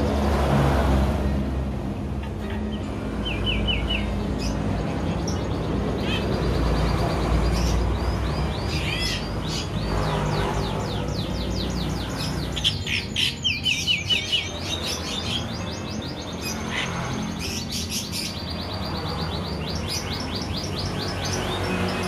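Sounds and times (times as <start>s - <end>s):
bird singing chirps: 2.0s - 22.0s.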